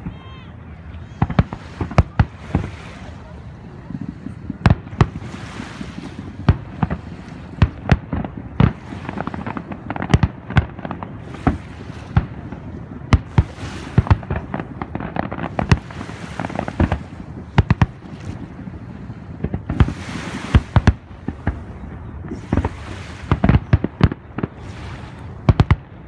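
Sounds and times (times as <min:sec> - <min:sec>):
fireworks bursting: 0:01.1 - 0:26.0.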